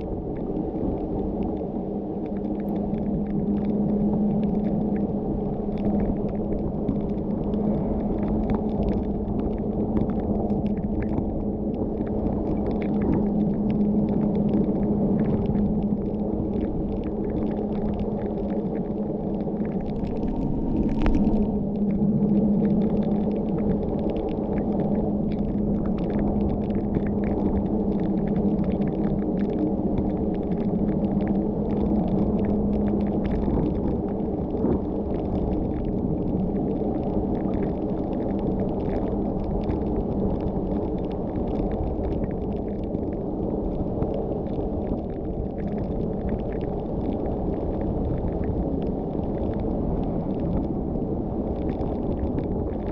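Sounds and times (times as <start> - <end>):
rain ticking: 0.0 - 52.9.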